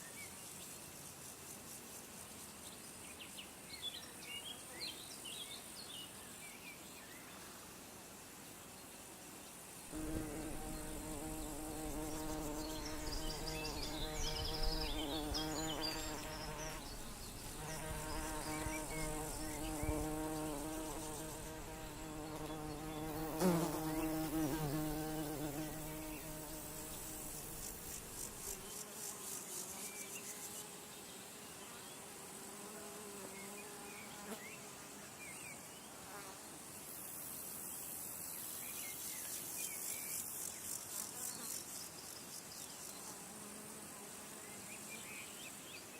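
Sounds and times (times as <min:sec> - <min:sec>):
flying insect buzzing: 0:07.4 - 0:35.3, 0:35.9 - 0:45.6.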